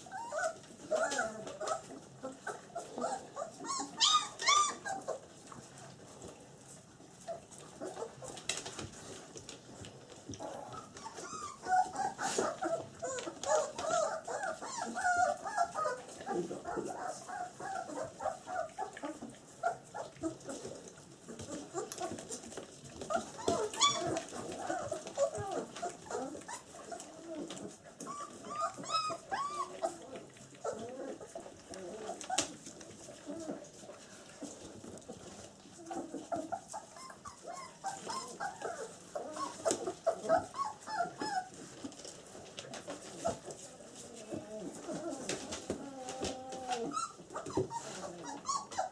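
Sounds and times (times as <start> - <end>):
puppies whimpering and squeaking: 0.0 - 48.9.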